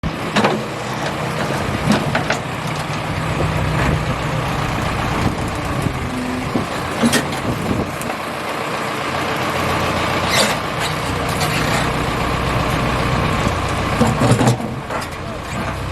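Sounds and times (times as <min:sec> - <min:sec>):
heavy vehicle engine running: 0:00.0 - 0:15.9.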